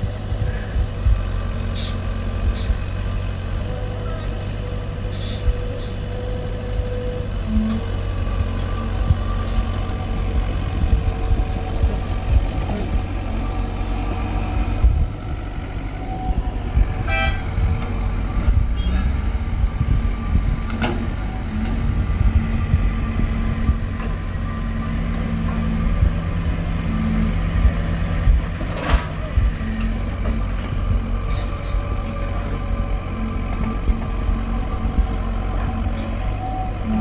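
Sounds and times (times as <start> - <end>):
diesel engine rumbling under load: 0.0 - 37.0.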